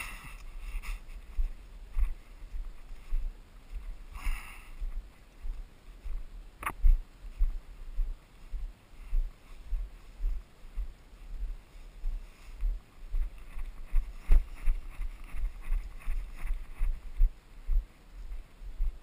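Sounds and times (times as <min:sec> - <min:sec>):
footsteps running on dirt trail: 0:00.2 - 0:19.0.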